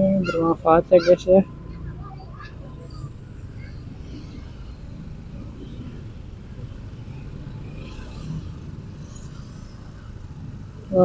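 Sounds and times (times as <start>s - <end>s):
scooter engines low rumble: 0.0s - 11.0s.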